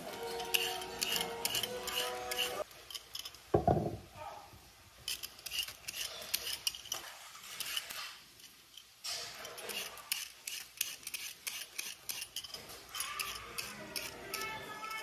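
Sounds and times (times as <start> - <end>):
peeler scraping carrots: 0.0 - 3.1, 5.0 - 15.0.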